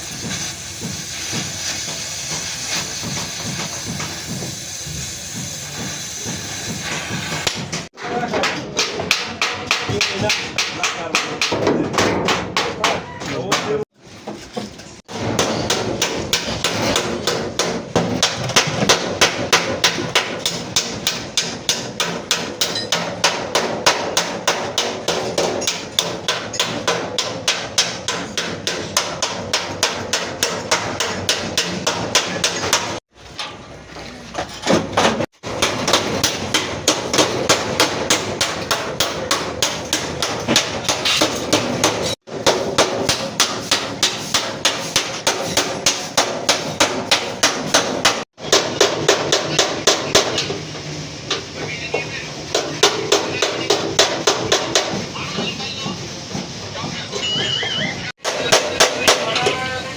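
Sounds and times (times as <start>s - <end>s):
hammer beating sheet metal: 0.1s - 14.0s, 15.0s - 33.1s, 34.7s - 50.6s, 52.5s - 56.4s, 58.2s - 59.7s.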